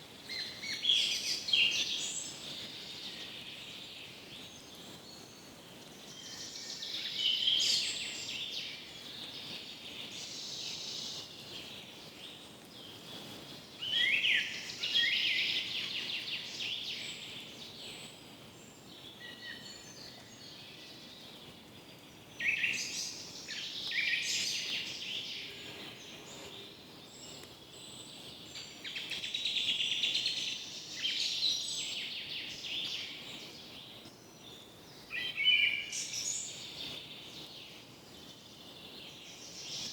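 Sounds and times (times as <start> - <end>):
faint steady background hiss: 0.0 - 39.9
forest birds singing: 0.0 - 39.9.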